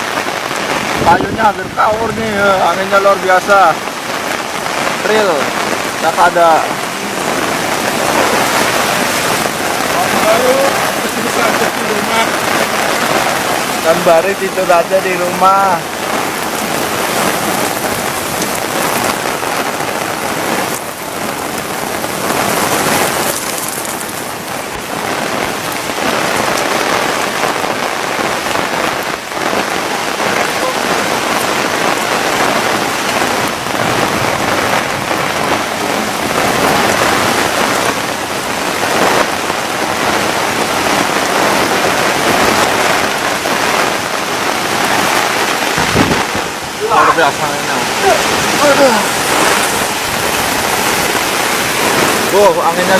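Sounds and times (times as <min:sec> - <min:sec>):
heavy rain pouring: 0:00.0 - 0:52.9
strong gusting wind: 0:00.0 - 0:52.9.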